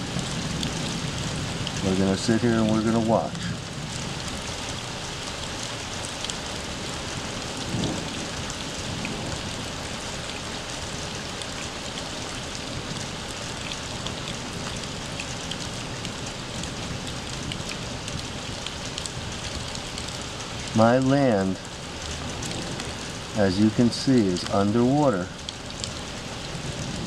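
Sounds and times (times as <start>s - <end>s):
rain pattering outdoors: 0.0s - 27.0s.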